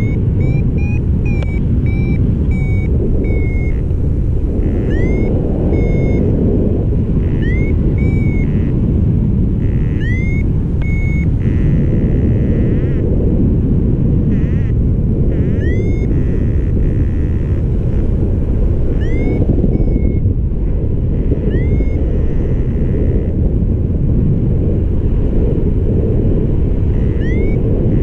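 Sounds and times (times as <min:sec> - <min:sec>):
variometer chirps and beeps: 0:00.0 - 0:13.2, 0:14.2 - 0:23.4, 0:26.8 - 0:28.0
wind rushing over microphone: 0:00.0 - 0:28.0.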